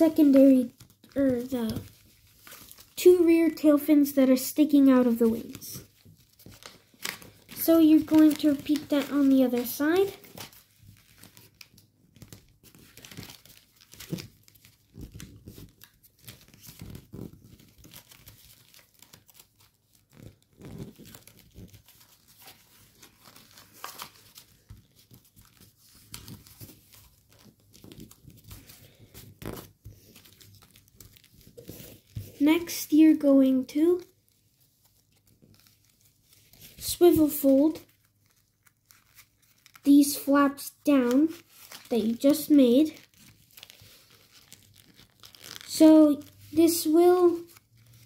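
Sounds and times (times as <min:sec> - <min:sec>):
foil paper crinkling: 0:00.0 - 0:48.0.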